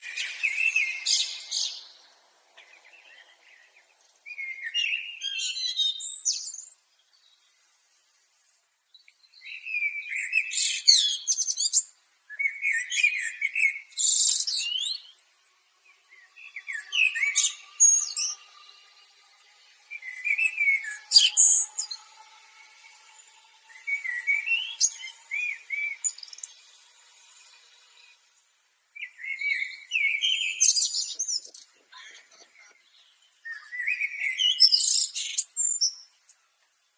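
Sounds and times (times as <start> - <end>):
blackbird singing: 0.0 - 7.5, 8.9 - 28.4, 29.0 - 36.5.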